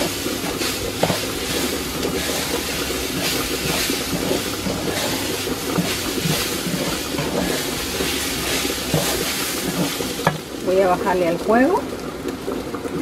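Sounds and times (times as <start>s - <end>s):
wooden spoon scraping pot: 0.0s - 10.6s
food sizzling in hot oil: 0.0s - 13.0s.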